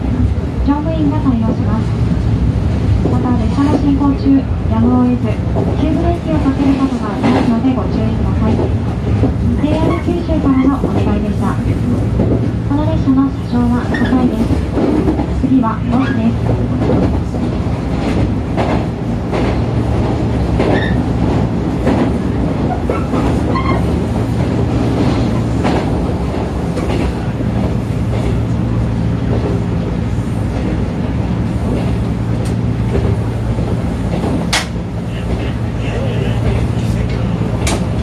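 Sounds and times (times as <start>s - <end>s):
train motor and wheel hum: 0.0s - 38.0s.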